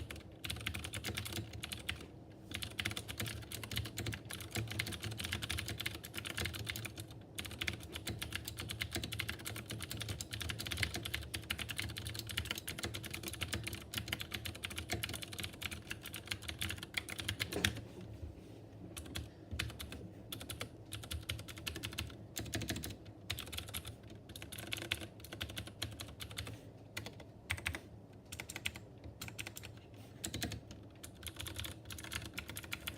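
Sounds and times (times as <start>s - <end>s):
typing on a mechanical keyboard: 0.0s - 17.8s, 19.0s - 32.9s.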